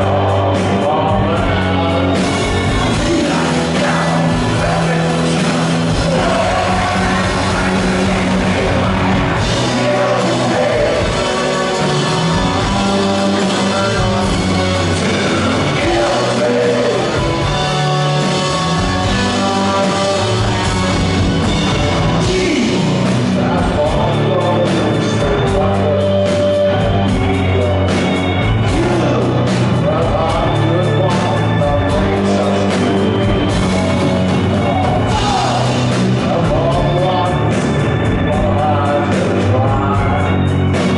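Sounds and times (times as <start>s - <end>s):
live rock band playing: 0.0s - 40.9s
man singing lead vocal: 0.0s - 40.9s.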